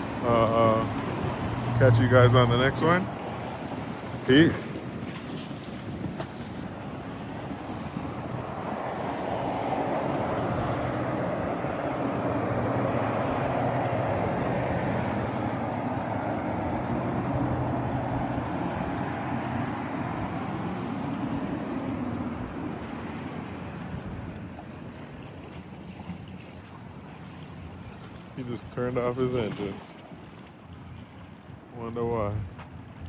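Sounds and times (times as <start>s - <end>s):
motorboat engine humming: 0.0s - 33.0s
water rushing: 0.0s - 33.0s.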